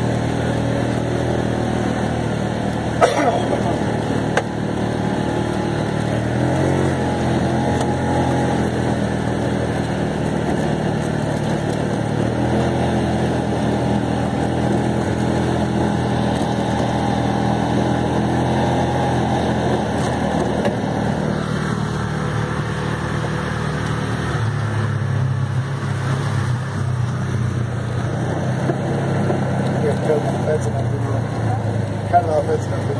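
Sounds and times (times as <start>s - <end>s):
utility vehicle engine running: 0.0s - 32.9s.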